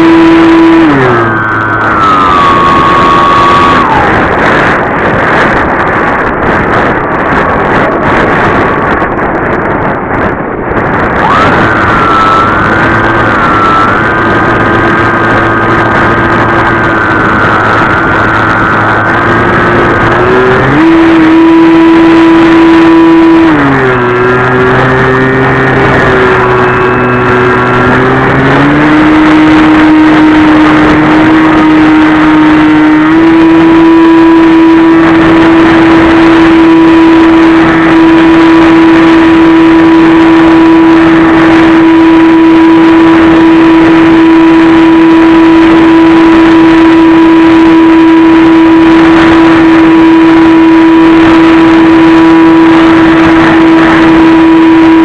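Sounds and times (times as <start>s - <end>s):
electric motor and propeller drone: 0.0s - 5.9s, 11.2s - 55.0s
rush of air: 0.0s - 55.0s.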